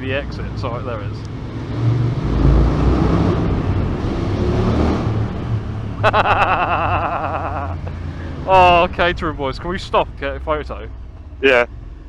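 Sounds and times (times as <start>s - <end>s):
motorcycle engine echoing in tunnel: 0.0s - 12.0s.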